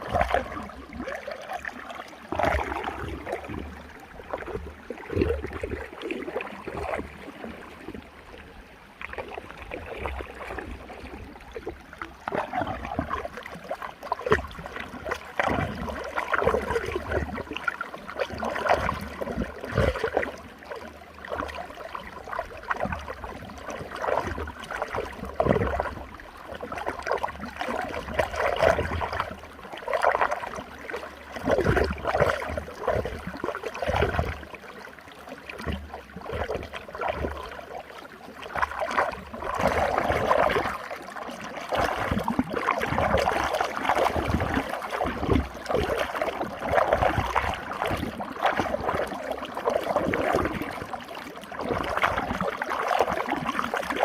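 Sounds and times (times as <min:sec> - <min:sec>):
water gurgling and splashing: 0:00.0 - 0:54.0.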